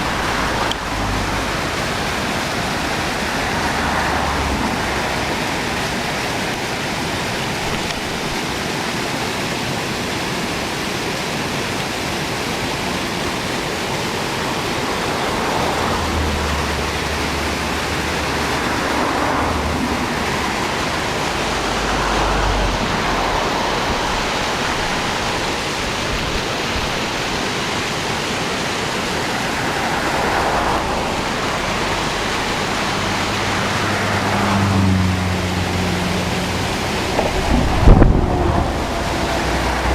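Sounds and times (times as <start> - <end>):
water pouring over waterfall: 0.0 - 39.9.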